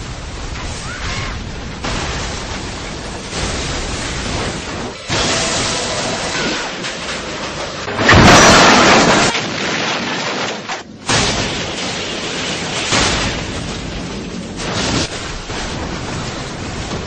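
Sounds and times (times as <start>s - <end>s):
car crash impacts: 1.8s - 17.0s.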